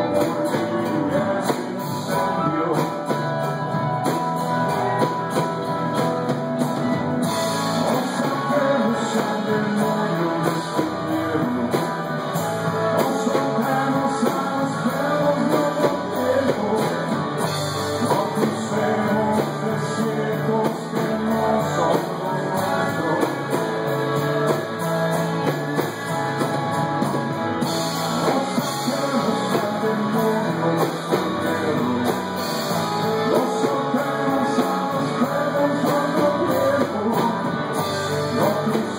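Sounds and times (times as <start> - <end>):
man singing: 0.0 - 5.2, 7.2 - 26.5, 27.6 - 38.9
bass guitar: 0.0 - 38.9
drum kit: 0.0 - 38.9
strummed guitar: 0.0 - 38.9.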